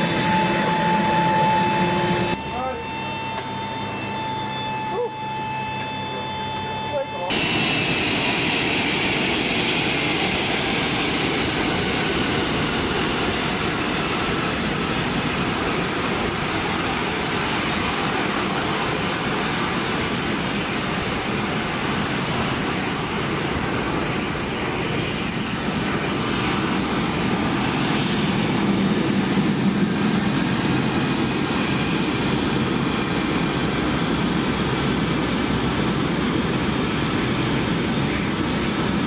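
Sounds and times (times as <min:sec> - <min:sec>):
jet engines roaring with high whine: 0:00.0 - 0:39.0.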